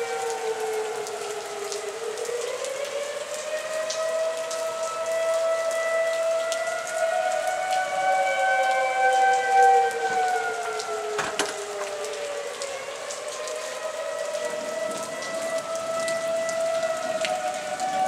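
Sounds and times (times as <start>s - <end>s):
warning sirens wailing: 0.0s - 18.0s.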